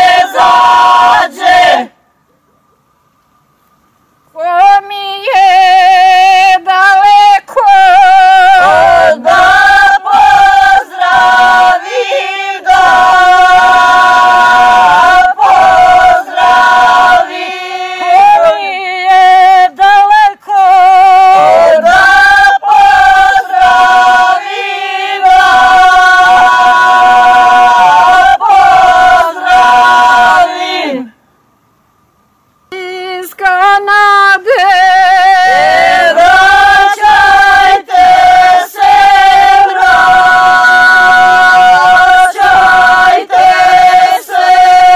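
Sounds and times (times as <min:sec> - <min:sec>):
women singing folk song unaccompanied: 0:00.0 - 0:02.0, 0:04.3 - 0:31.2, 0:32.7 - 0:44.9.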